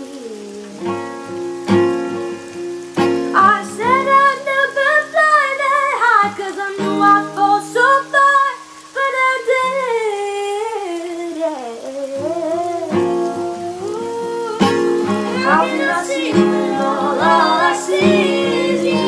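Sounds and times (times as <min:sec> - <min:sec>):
person singing long sliding notes: 0:00.0 - 0:01.3, 0:03.3 - 0:19.0
guitar accompaniment: 0:00.0 - 0:19.0.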